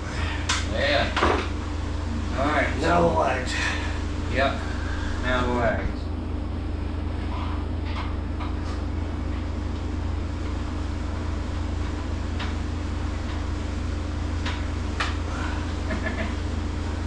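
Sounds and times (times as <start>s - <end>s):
refrigeration fans humming: 0.0s - 17.0s.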